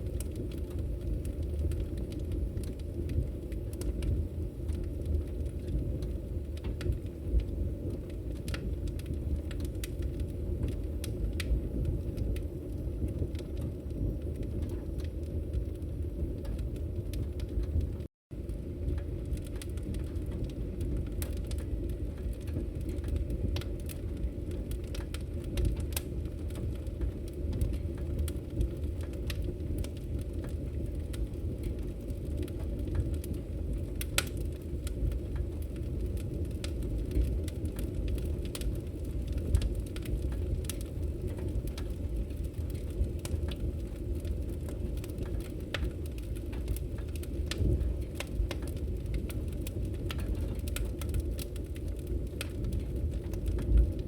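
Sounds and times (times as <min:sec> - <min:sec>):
fire crackling and popping: 0:00.0 - 0:54.0
roar of fire flames: 0:00.0 - 0:54.0.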